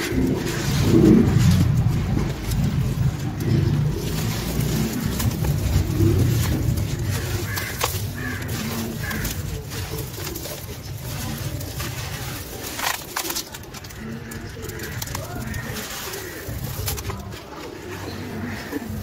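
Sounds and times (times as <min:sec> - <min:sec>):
bird calling: 0:00.0 - 0:19.0
wet cement chunks crumbling by hand: 0:00.0 - 0:19.0.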